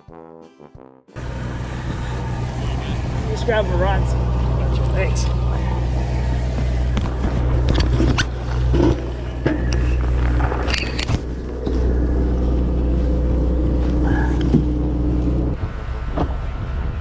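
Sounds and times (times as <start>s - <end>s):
boat engine idling: 1.2s - 16.5s.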